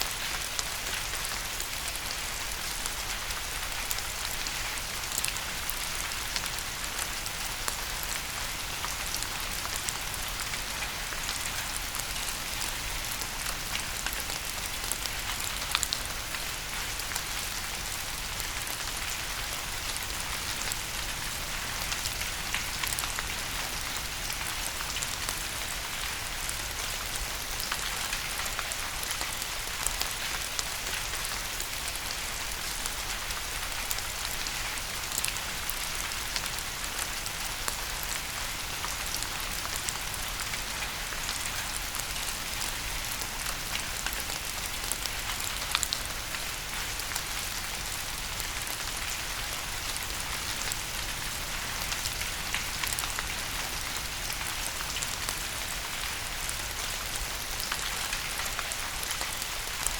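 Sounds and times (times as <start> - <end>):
rain on a hard surface: 0.0 - 59.9.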